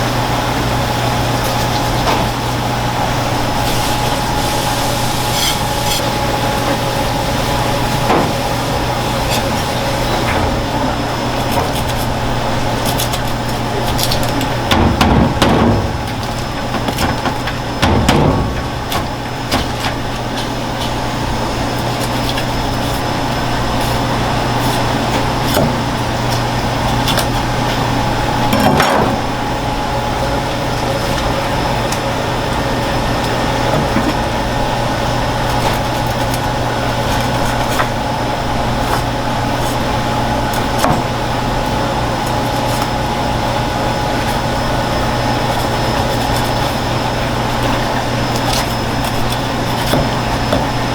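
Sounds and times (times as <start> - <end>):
steady mechanical hum: 0.0 - 50.9.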